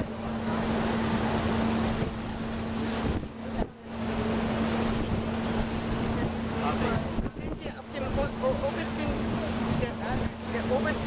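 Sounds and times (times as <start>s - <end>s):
ship engine droning: 0.0s - 11.0s
water rushing along hull: 0.0s - 11.0s
wind buffeting microphone: 0.0s - 11.0s.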